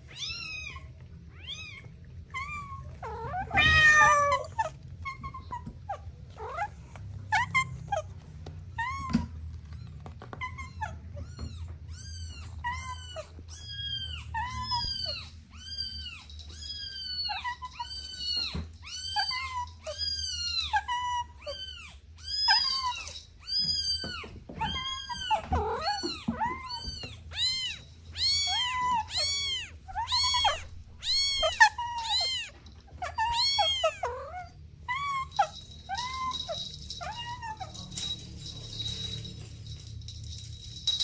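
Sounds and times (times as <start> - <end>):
kitten meowing: 0.1 - 8.1, 8.8 - 36.4.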